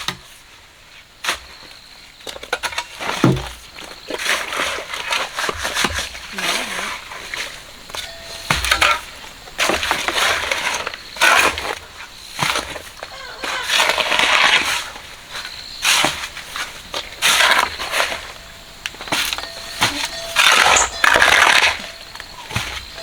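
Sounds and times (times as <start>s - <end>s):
shovel scraping gravel: 4.2s - 23.0s.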